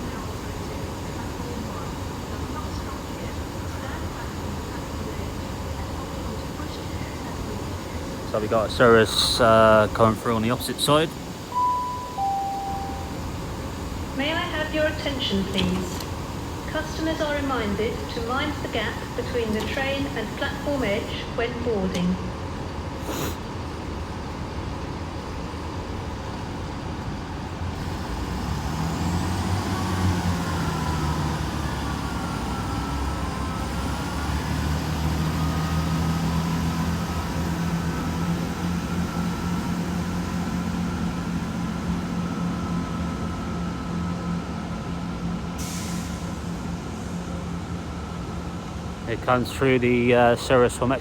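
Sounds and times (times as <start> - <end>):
diesel train engines whining: 0.0 - 51.0.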